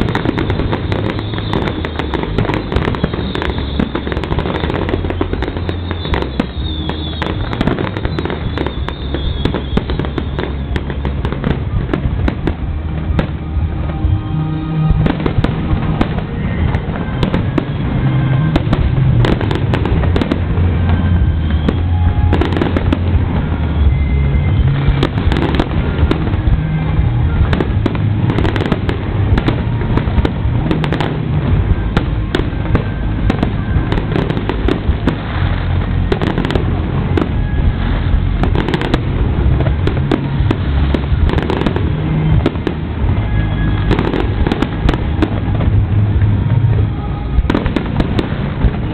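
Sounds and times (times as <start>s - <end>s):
fireworks bursting and crackling: 0.0s - 48.9s
music playing: 0.0s - 48.9s.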